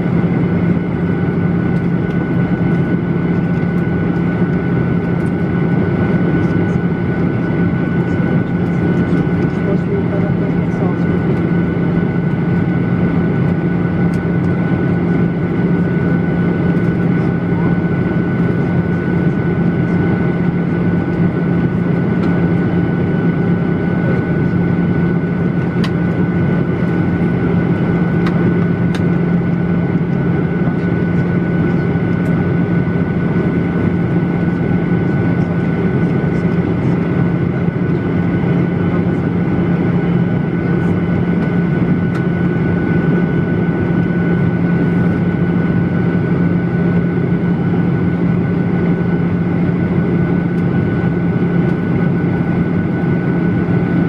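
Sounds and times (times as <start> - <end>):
jet engines droning: 0.0 - 54.0.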